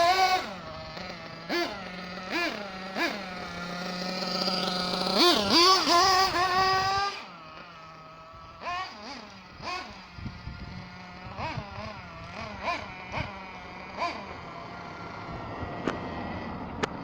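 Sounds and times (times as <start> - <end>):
small nitro engine revving: 0.0 - 17.0.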